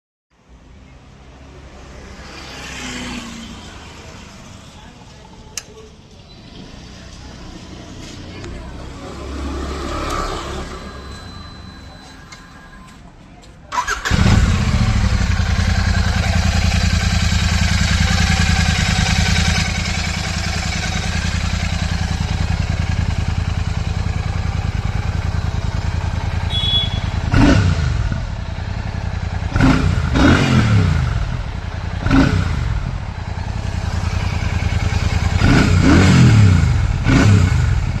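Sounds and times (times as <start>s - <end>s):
motorcycle engine idling and revving: 0.6s - 12.4s, 13.7s - 38.0s.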